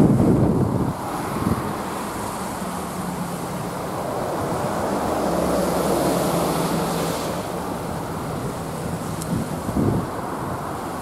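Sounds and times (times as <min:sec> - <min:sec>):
distant diesel train drone: 0:00.0 - 0:11.0
wind noise on microphone: 0:00.0 - 0:11.0.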